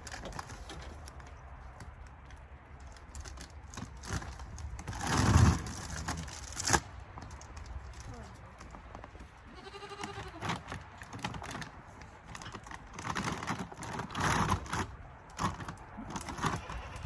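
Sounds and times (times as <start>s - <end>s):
crunching clicks and rustles: 0.0s - 17.0s.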